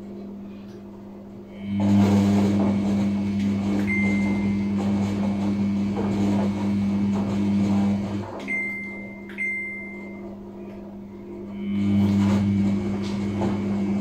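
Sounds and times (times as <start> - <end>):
washing machine drum humming: 0.0 - 14.0.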